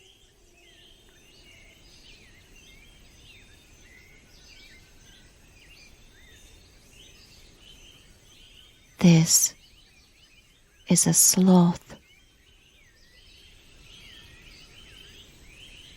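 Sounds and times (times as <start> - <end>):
low steady hiss: 0.0 - 15.9.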